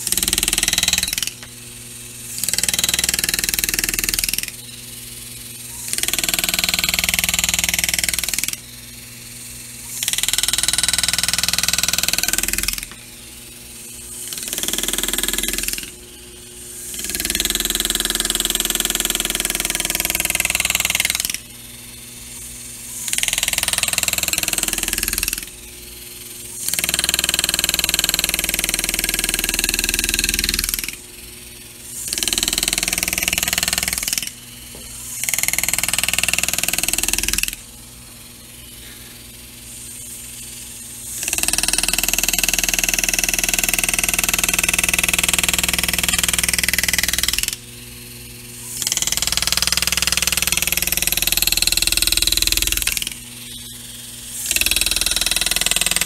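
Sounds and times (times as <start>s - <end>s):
pneumatic engraver hammering metal: 0.0s - 37.7s, 38.5s - 56.0s.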